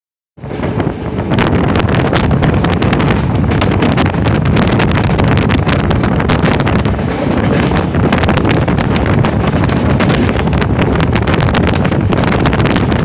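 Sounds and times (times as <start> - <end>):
train coaches rumbling on track: 0.4 - 13.0
wind buffeting the microphone: 0.4 - 13.0.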